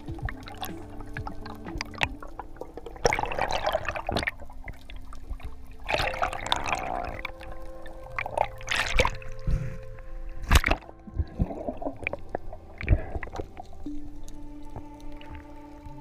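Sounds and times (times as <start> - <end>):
soft music with held notes: 0.0 - 16.0
underwater rushing bubbling water: 0.0 - 16.0.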